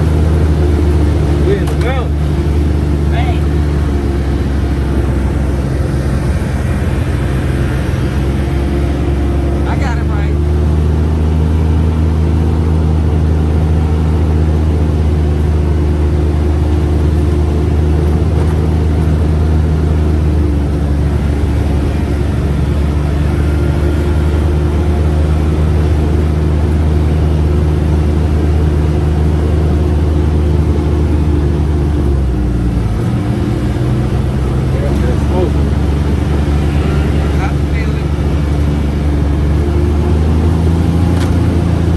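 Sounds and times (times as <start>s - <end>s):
utility vehicle engine running: 0.0s - 41.9s.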